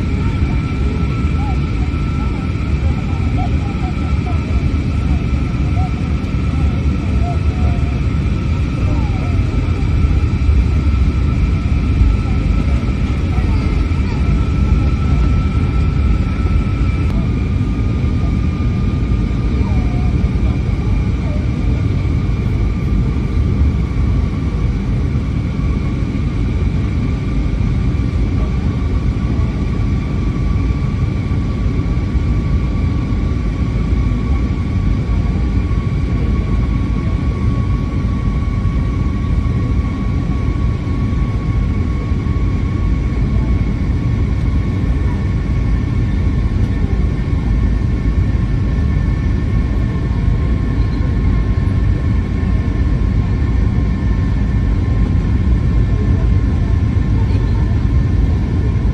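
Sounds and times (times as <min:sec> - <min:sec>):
low engine drone: 0:00.0 - 0:58.9.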